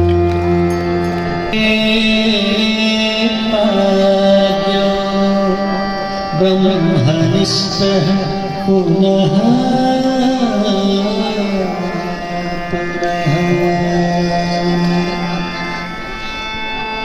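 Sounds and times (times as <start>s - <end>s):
held drone: 0.0s - 17.0s
person singing slow melody: 0.0s - 17.0s.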